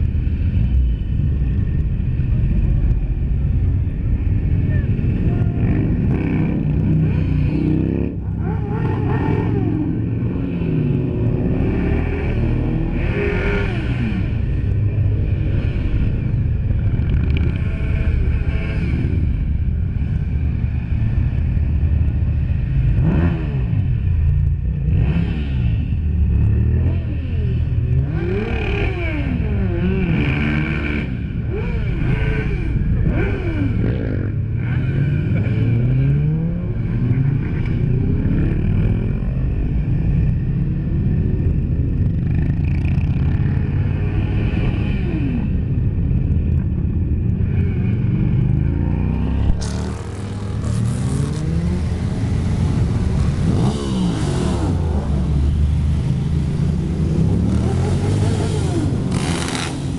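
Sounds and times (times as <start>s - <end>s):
motorcycles passing: 0.0s - 59.9s.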